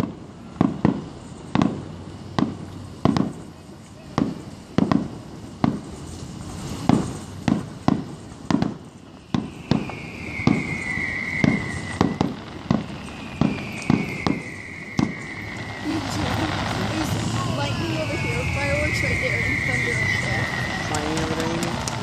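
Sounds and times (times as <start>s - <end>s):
falling firework whistle: 0.0s - 22.0s
fireworks bangs and pops: 0.0s - 22.0s.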